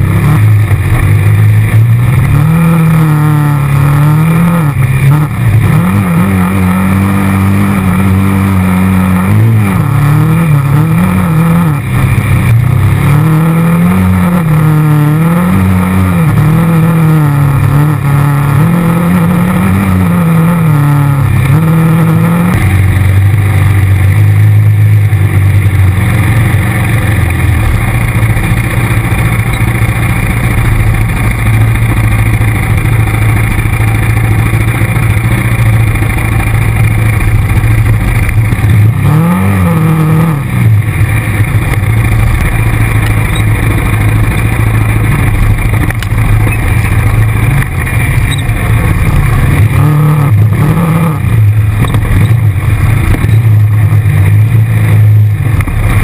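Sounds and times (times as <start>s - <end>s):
atv engine running under load: 0.0s - 56.0s.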